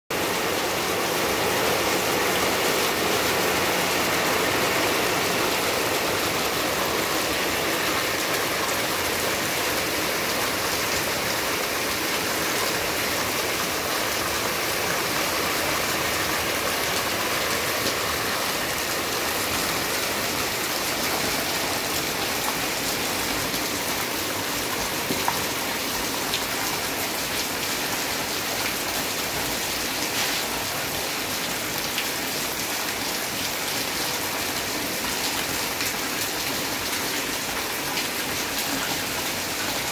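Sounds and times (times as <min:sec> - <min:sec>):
steady rain on paving: 0:00.1 - 0:39.9.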